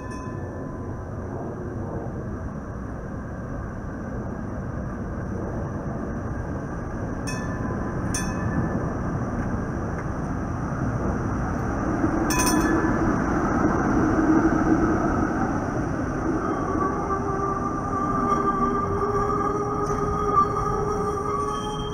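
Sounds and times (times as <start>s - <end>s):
streetcar rumbling on rails: 0.0s - 21.9s.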